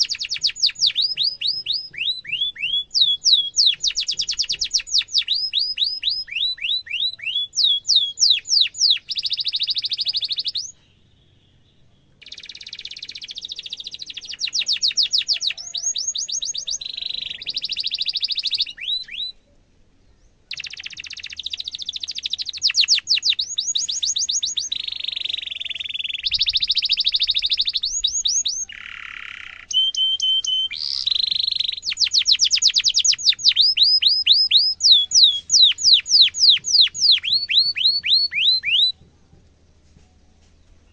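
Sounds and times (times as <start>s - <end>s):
canary singing: 0.0s - 19.6s, 20.5s - 39.4s.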